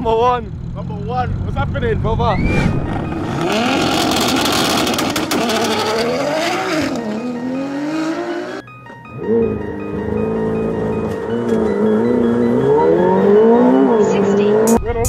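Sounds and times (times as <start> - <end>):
car engine accelerating hard: 0.0 - 14.8.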